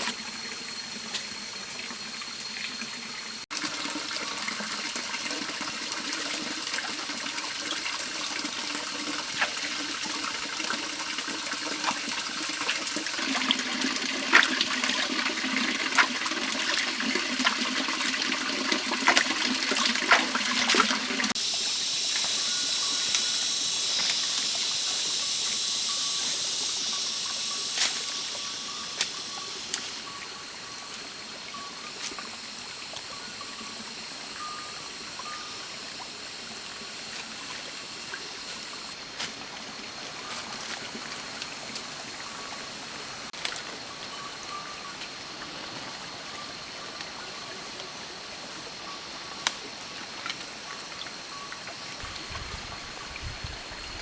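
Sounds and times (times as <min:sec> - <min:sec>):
running water splashing: 0:00.0 - 0:44.8.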